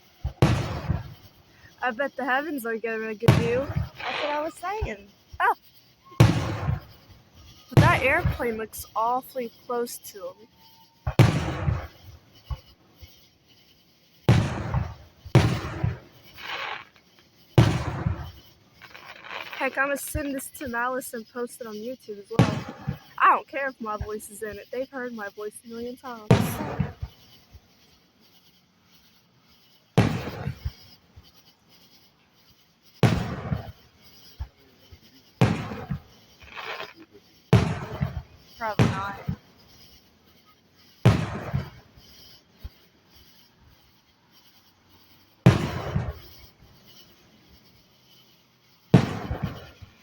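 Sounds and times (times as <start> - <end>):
fireworks shells booming: 0.0 - 50.0.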